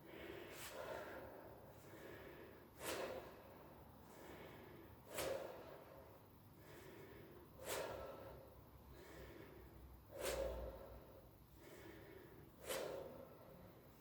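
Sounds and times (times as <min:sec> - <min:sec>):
person breathing hard: 0:00.0 - 0:14.0.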